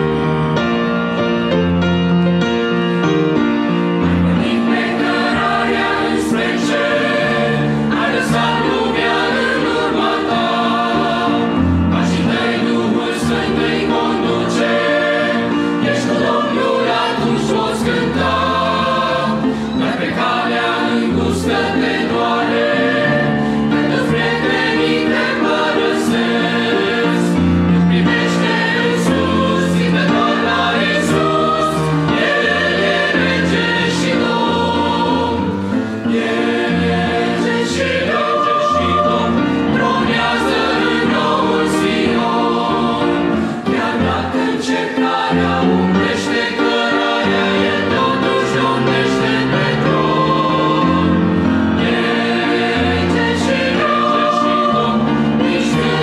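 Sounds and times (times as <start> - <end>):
piano accompaniment: 0.0 - 56.0
mixed choir singing a hymn: 2.7 - 56.0.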